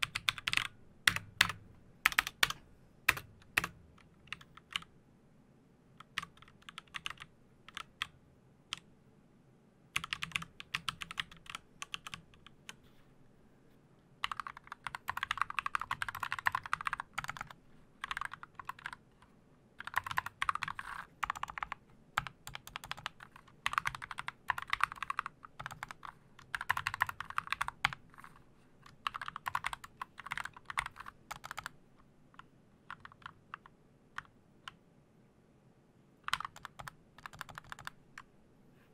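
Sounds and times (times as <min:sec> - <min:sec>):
typing on computer keyboard: 0:00.0 - 0:04.9, 0:06.0 - 0:08.8, 0:10.0 - 0:12.8, 0:14.2 - 0:19.0, 0:19.8 - 0:31.8, 0:32.4 - 0:34.3, 0:36.2 - 0:38.3.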